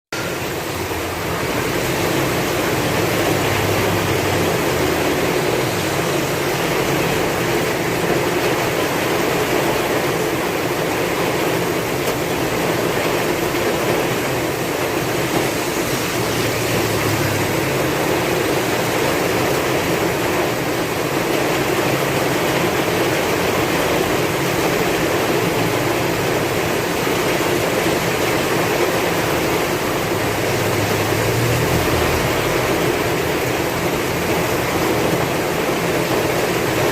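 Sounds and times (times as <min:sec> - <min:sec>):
heavy rain hissing: 0:00.2 - 0:36.9.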